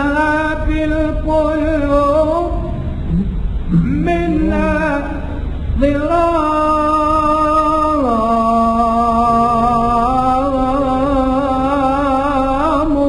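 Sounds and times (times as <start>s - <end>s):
person singing melismatic notes: 0.0s - 13.0s.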